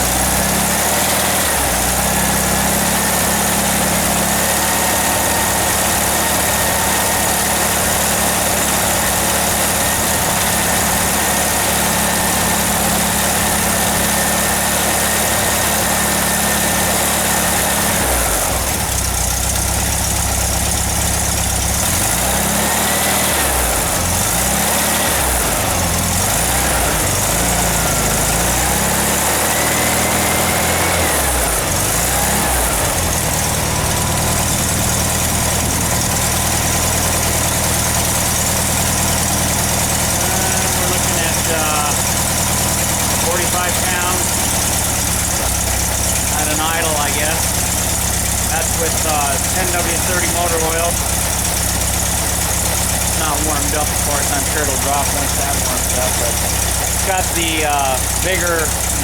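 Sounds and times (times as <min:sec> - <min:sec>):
air-cooled engine running: 0:00.0 - 0:59.0.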